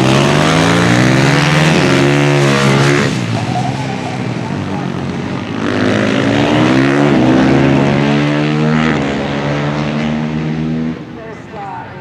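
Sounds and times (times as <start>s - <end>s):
motorcycle engines accelerating hard: 0.0s - 12.0s.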